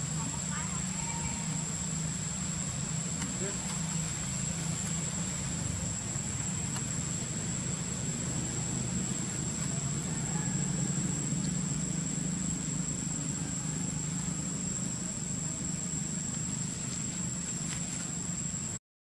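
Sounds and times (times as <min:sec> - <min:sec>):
high-pitched insect drone: 0:00.0 - 0:18.8.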